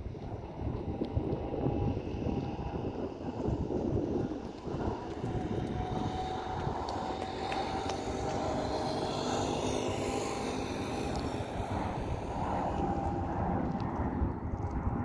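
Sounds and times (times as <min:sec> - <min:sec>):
jet engines rushing: 0:00.0 - 0:15.0
wind rumble on microphone: 0:00.0 - 0:15.0.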